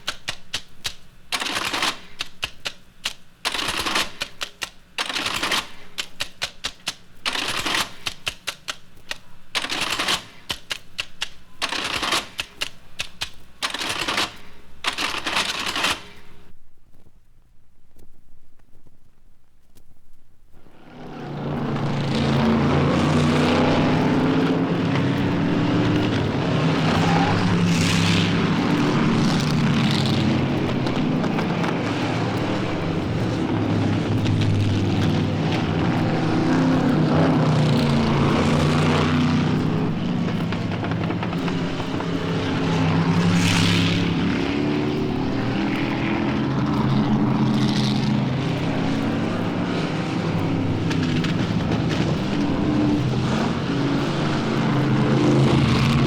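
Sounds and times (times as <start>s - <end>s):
engine running: 0.0s - 16.5s, 20.6s - 56.0s.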